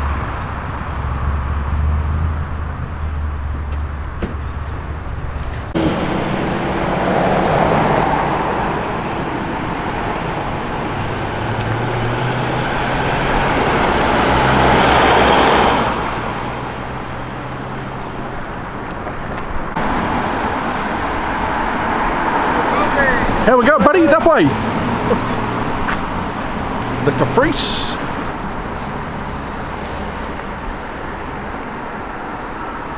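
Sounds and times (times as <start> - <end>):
car engines passing slowly: 0.0 - 32.9.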